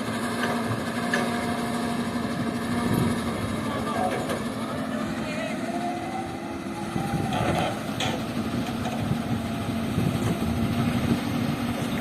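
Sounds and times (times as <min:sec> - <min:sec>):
heavy diesel engines running: 0:00.0 - 0:12.0.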